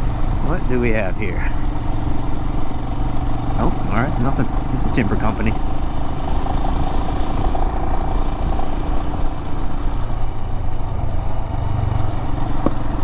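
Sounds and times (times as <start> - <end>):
low rumble: 0.0 - 13.0
motorcycle engine running: 0.0 - 13.0.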